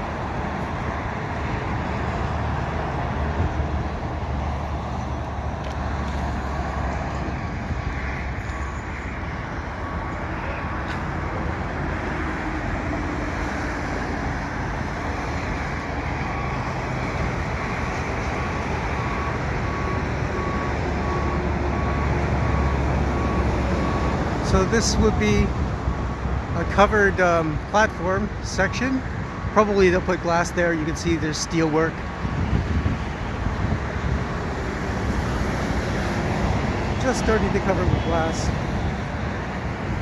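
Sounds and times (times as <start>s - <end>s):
highway traffic hum: 0.0s - 40.0s.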